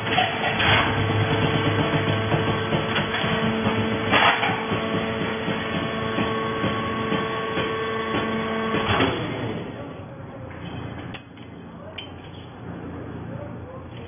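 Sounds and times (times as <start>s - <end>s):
baler mechanical hum: 0.0s - 14.0s.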